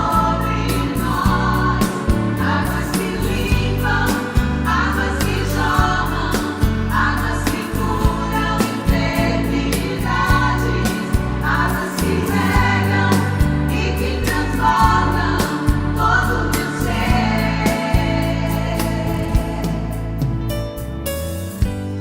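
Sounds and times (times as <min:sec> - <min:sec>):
choir singing gospel: 0:00.0 - 0:20.4
band with steady drum beat: 0:00.1 - 0:20.6.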